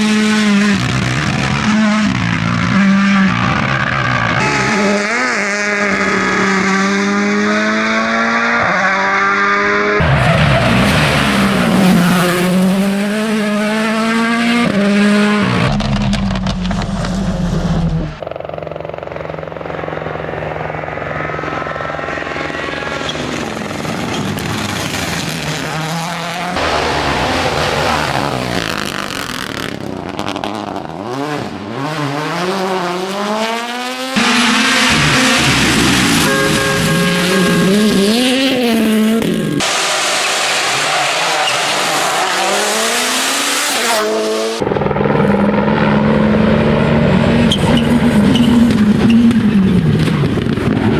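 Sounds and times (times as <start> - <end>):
rally cars at full throttle: 0.0 - 50.9.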